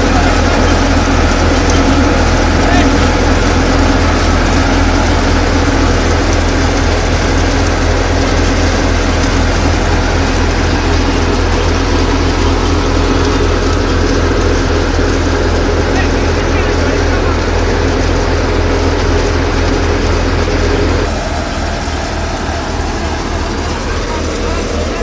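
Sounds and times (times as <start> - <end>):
tractor driving a thresher: 0.0 - 25.0.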